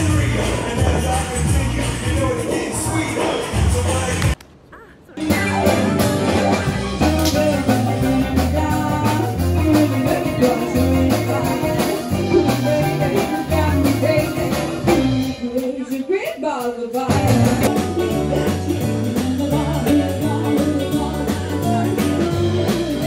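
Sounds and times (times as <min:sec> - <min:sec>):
live band music: 0:00.0 - 0:04.4, 0:05.2 - 0:23.0
person singing: 0:00.0 - 0:23.0.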